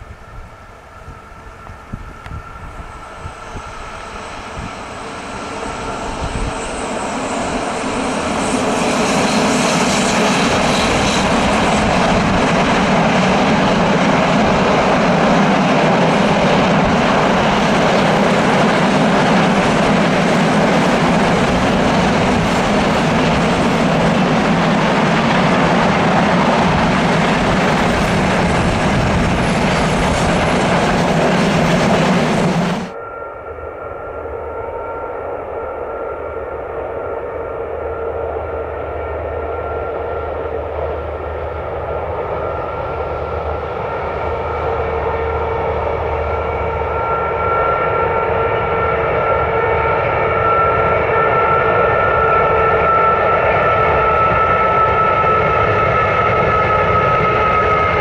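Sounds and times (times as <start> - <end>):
electric locomotives passing: 0.0 - 58.0.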